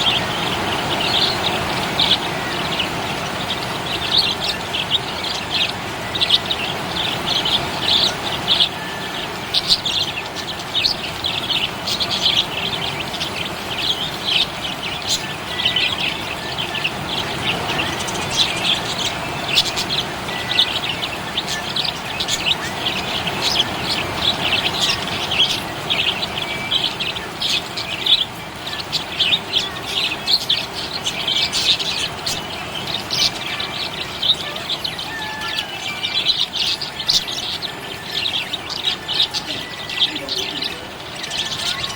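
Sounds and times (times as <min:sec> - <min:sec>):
budgies chirping and chattering: 0:00.0 - 0:41.9
steady background hiss: 0:00.0 - 0:41.9.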